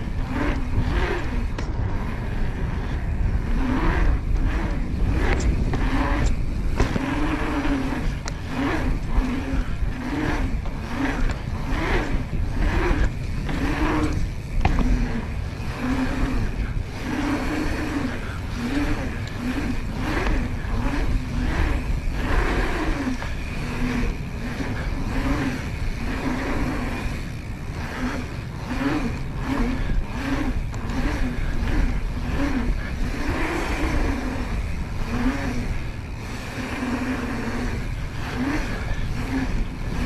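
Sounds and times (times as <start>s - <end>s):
bike tyres humming on pavement: 0.0s - 40.0s
low rumble: 0.0s - 40.0s
scattered clicks: 0.0s - 40.0s.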